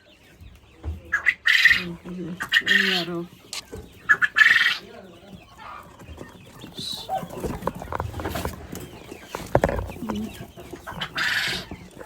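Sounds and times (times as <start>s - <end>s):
scratching and knocking in cage: 0.3s - 12.0s.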